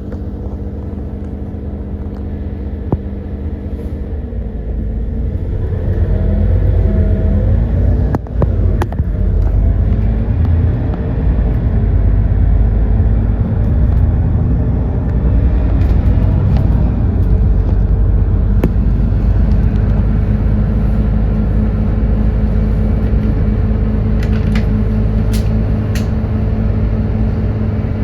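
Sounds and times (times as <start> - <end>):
bus engine rumbling: 0.0 - 28.0.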